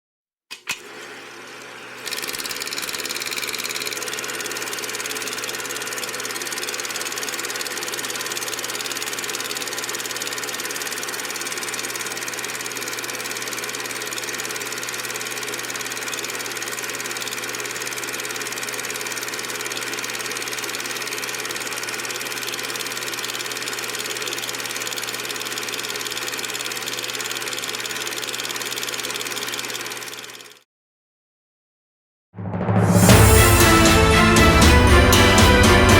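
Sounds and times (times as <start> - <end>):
motor running steadily: 0.7 - 30.6.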